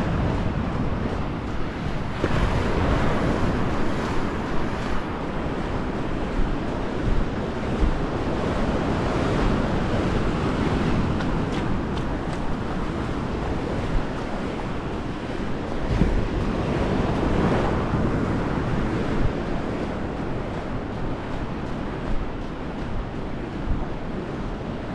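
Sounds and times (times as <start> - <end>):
sea surf washing onto shore: 0.0 - 24.9
wind buffeting microphone: 0.0 - 24.9.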